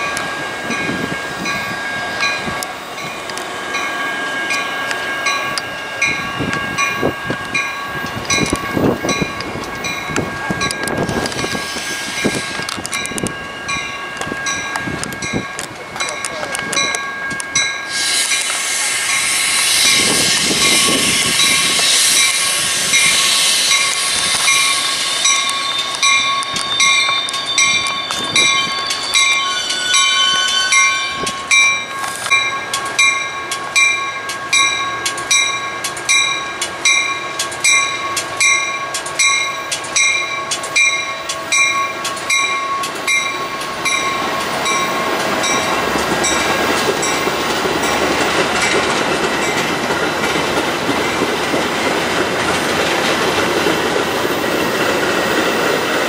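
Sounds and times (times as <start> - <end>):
bell ringing: 0.0 - 49.8
train running on rails: 0.0 - 56.0.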